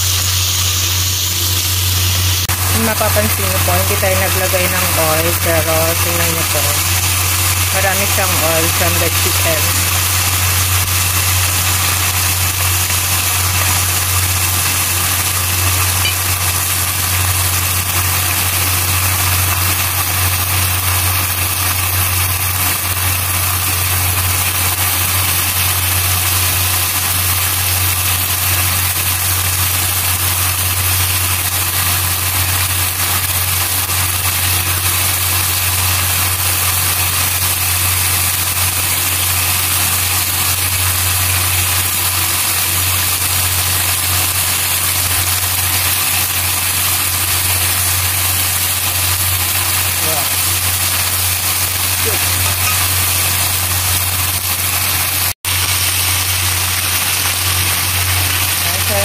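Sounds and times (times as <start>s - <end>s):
chicken sizzling in fat: 0.0s - 59.0s.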